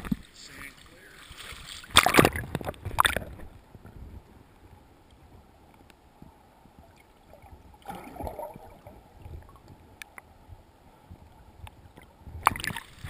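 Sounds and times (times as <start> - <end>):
underwater river current rushing: 0.0 - 13.0.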